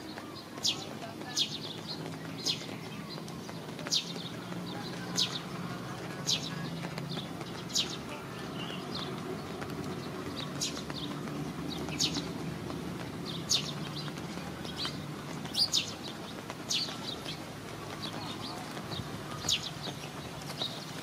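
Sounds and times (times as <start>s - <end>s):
birds chirping: 0.0s - 21.0s
low background noise: 0.0s - 21.0s.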